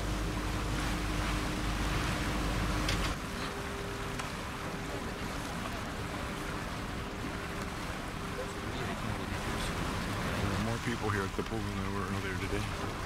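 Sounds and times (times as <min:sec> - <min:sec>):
boat engine drone: 0:00.0 - 0:13.0
water noise: 0:00.0 - 0:13.0
wind: 0:00.0 - 0:13.0.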